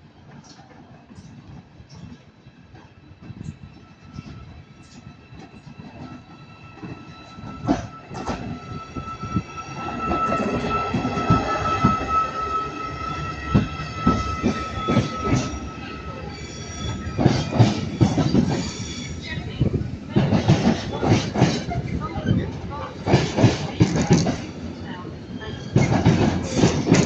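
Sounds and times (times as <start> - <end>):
train wheel squeal: 0.4 - 27.0.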